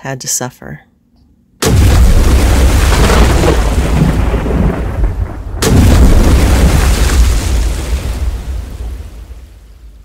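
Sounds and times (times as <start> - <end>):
thunder rumbling: 1.6 - 10.0.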